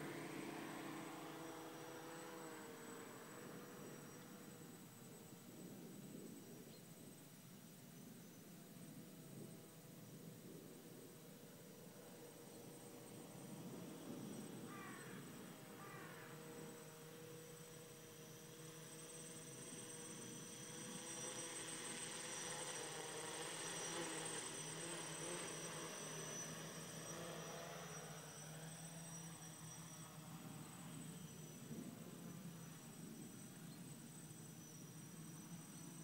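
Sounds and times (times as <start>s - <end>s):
quadcopter motors buzzing: 0.0s - 36.0s.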